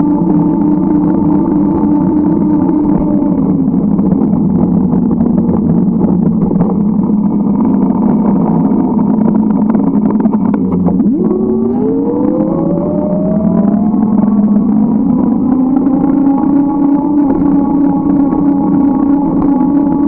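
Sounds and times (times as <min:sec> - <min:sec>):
drone of motor traffic: 0:00.0 - 0:20.0.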